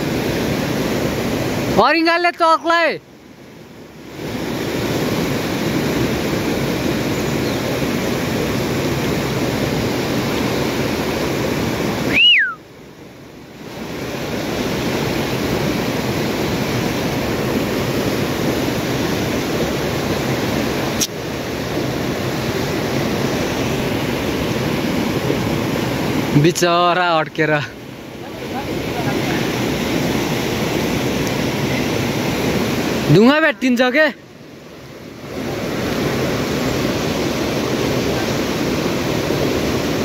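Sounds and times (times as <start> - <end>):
river water rushing: 0.0 - 40.0.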